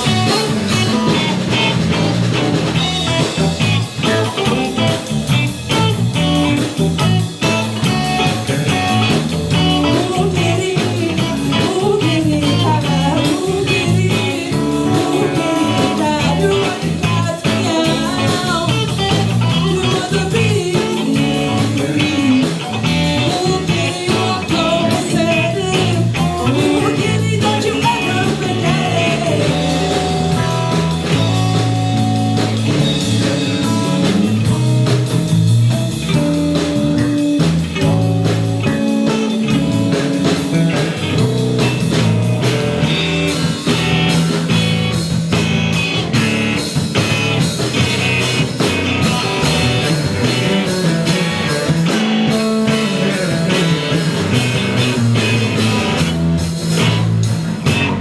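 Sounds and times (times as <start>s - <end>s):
guitar bending notes: 0.0s - 58.0s
rock band playing: 0.0s - 58.0s.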